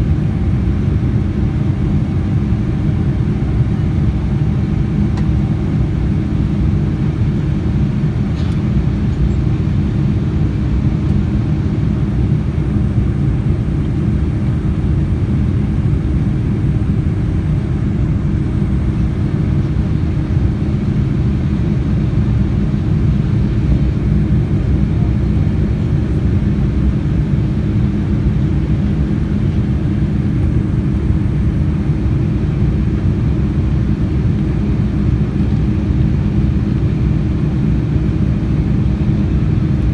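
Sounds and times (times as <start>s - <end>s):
aircraft cabin roar: 0.0s - 39.9s.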